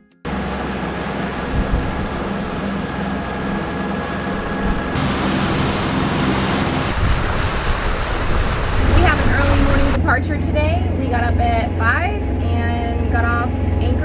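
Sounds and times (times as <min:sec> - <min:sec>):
boat diesel engine droning: 0:00.3 - 0:14.0.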